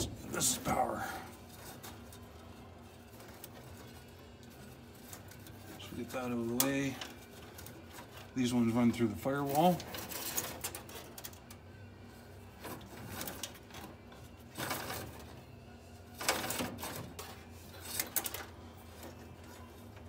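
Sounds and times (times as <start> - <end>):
wires and plastic connectors rustling: 0.0 - 20.0.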